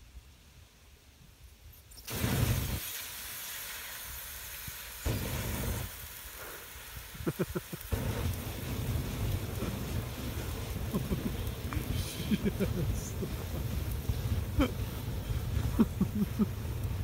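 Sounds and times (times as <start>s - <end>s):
loud hiss of spraying sparks: 1.6s - 17.0s
campfire flaring with a whoosh: 2.0s - 17.0s.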